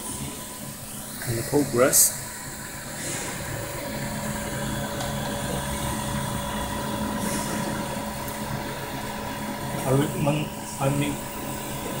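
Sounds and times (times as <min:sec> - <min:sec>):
three d printer humming: 0:00.0 - 0:12.0.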